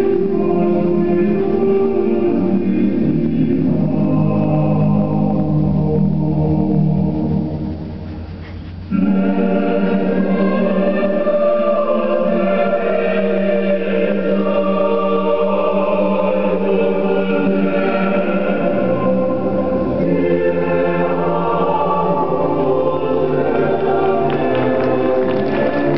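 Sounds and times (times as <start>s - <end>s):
choir singing: 0.0s - 7.7s, 8.9s - 25.9s.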